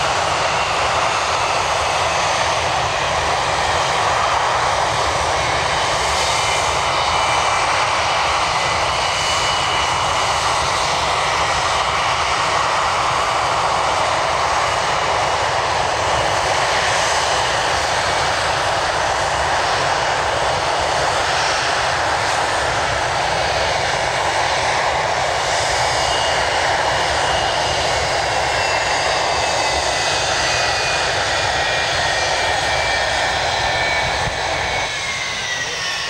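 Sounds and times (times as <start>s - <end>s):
high turbine whine: 0.0s - 36.0s
jet engines roaring: 0.0s - 36.0s.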